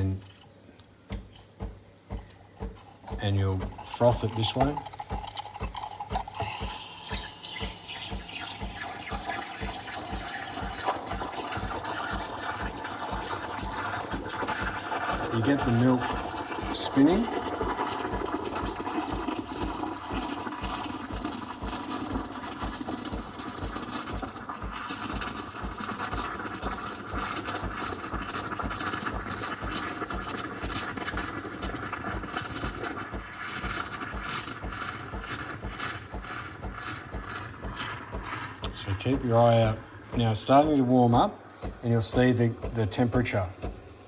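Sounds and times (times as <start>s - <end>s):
steam wand frothing milk: 0.0s - 44.0s.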